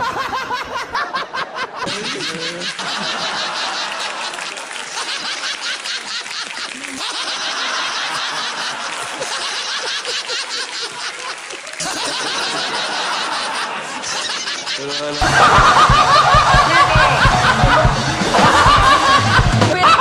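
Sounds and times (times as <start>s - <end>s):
man laughing hard: 0.0s - 4.2s, 6.7s - 20.0s.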